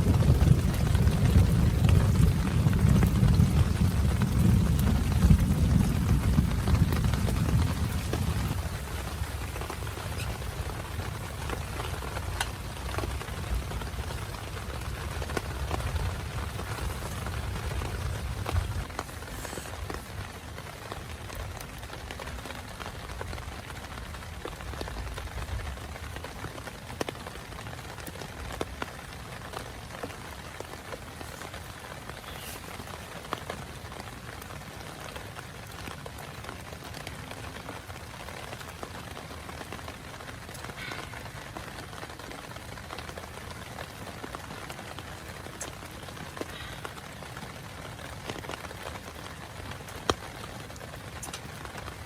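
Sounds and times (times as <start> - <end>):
rain on tent fabric: 0.0 - 52.0.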